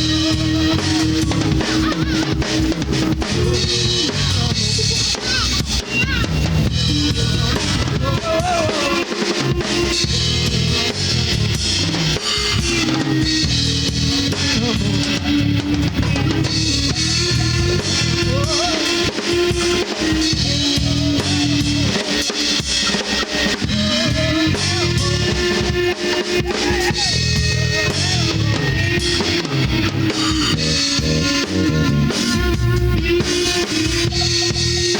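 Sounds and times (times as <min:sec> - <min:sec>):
drum kit beat: 0:00.0 - 0:34.9
electric guitars: 0:00.0 - 0:34.9
rock band playing live: 0:00.0 - 0:34.9.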